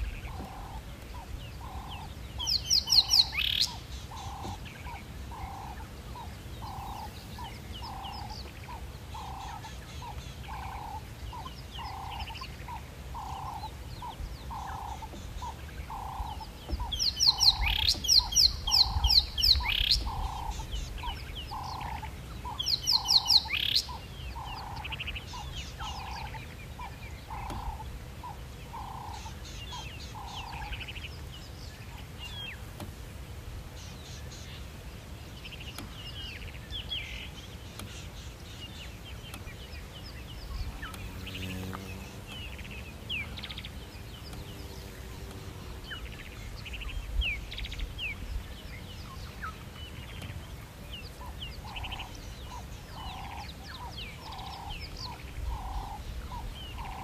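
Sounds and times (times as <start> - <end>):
birds chirping: 0.0 - 57.0
evenly spaced low bird notes: 0.0 - 57.0.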